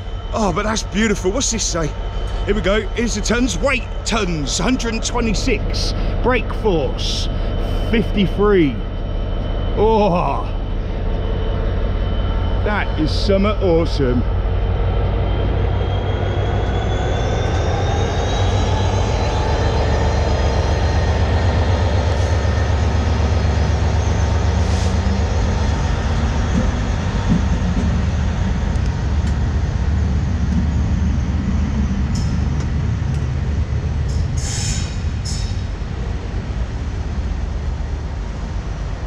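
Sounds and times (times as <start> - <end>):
diesel locomotive engine drone: 0.0 - 39.0
rising whine: 0.0 - 39.0
train rolling on rails: 0.0 - 39.0.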